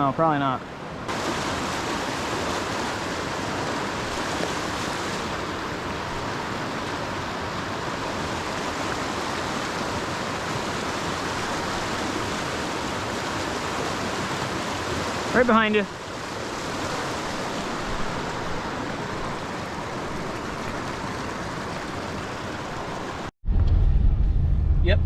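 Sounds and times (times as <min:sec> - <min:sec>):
creek water rushing: 0:00.0 - 0:23.3.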